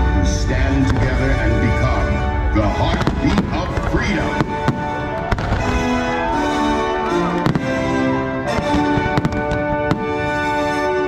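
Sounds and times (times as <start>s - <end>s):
music with long held notes: 0.0s - 11.0s
firework bangs: 0.5s - 10.7s.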